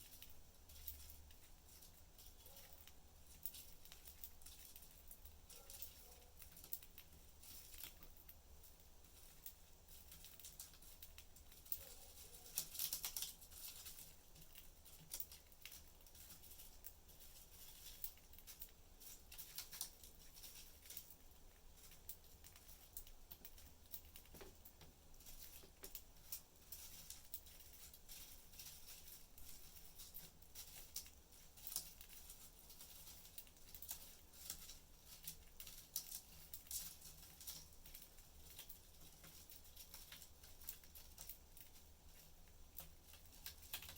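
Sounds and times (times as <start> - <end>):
birds clicking and scratching in cage: 0.0 - 43.9.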